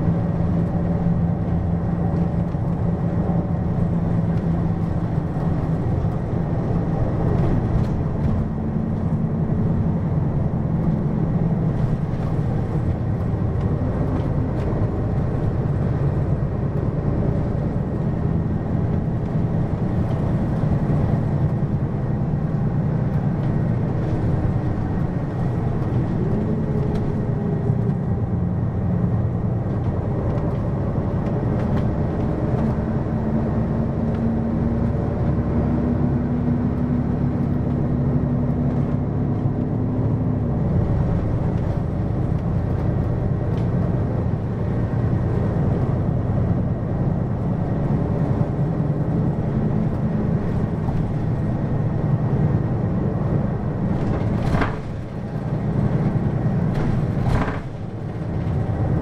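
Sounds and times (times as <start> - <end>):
bus diesel engine: 0.0 - 59.0
road rumble: 0.0 - 59.0.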